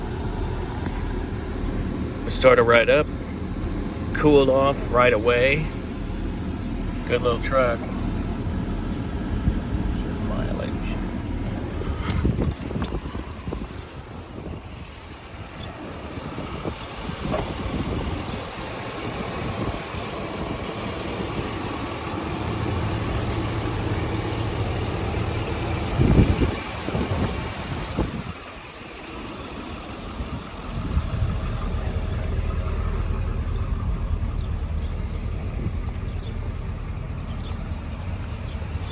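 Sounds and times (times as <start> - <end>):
pickup engine idling: 0.0 - 38.9.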